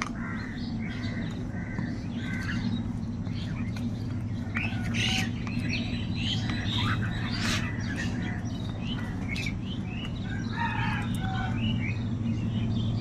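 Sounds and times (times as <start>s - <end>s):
crows cawing: 0.0s - 3.7s, 4.3s - 11.7s
steady low hum: 0.0s - 13.0s.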